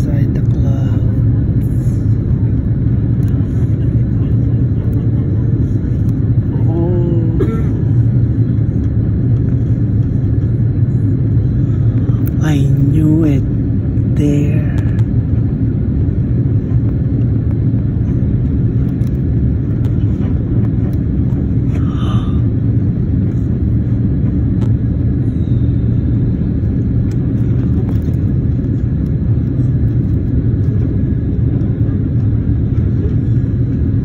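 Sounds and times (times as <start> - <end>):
jet engine and airflow rumble: 0.0 - 34.0.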